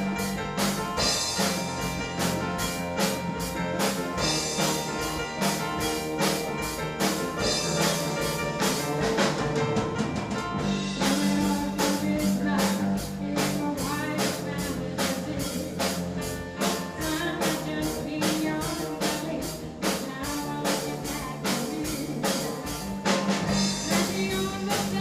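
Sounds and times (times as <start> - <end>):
drum kit beat: 0.0 - 25.0
electric bass: 0.0 - 25.0
electric guitar: 0.0 - 25.0
keyboard: 0.0 - 25.0.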